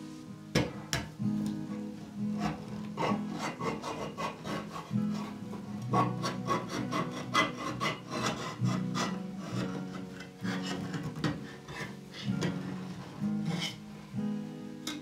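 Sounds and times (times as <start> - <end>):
soft acoustic guitar music: 0.0 - 15.0.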